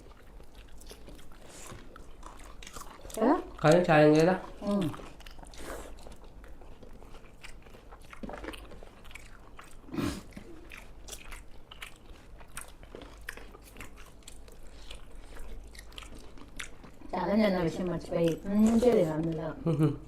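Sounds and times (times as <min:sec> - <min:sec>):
chewing and mouth clicks: 0:00.0 - 0:19.7.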